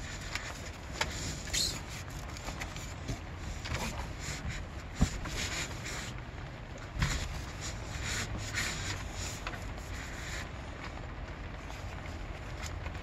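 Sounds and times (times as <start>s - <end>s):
foam insulation rubbing and rustling: 0.0s - 13.0s.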